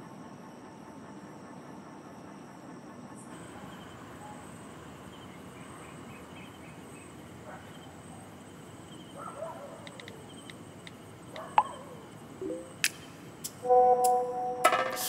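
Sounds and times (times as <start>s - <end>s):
crickets chirping: 0.0s - 13.8s.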